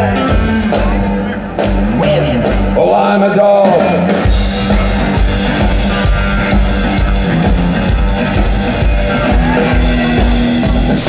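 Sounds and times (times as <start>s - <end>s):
drum kit: 0.0s - 11.0s
electric guitar: 0.0s - 11.0s
upright bass: 0.0s - 11.0s.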